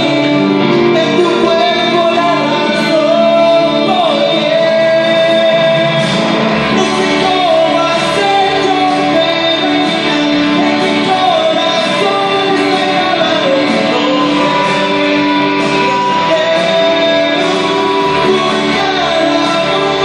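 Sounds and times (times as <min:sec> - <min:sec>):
backing track with guitar: 0:00.0 - 0:20.0
man singing pop ballad: 0:00.0 - 0:20.0.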